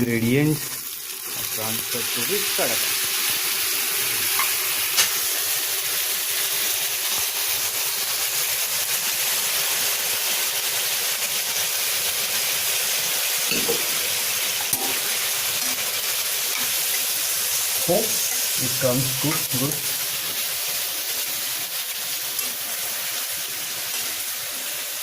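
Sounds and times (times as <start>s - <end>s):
vegetables sizzling in a pan: 0.0s - 25.0s.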